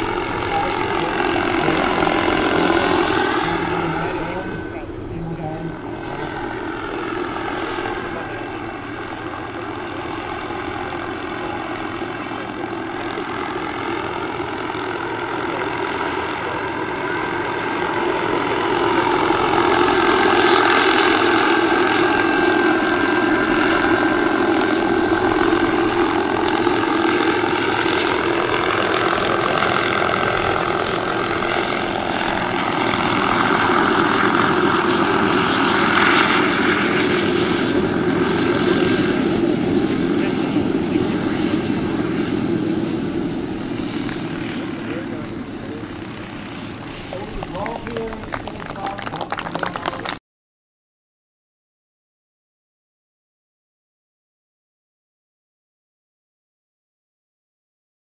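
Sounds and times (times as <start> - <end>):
helicopter rotor noise: 0.0 - 50.2
model helicopter turbine whine: 0.0 - 50.2.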